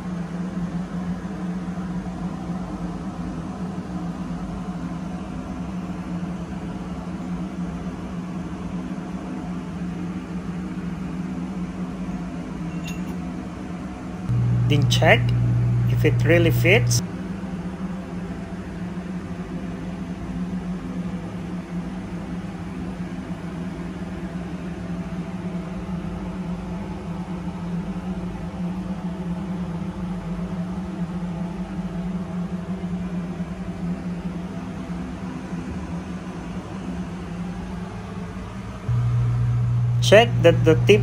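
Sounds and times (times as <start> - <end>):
low machinery hum: 0.0 - 41.0.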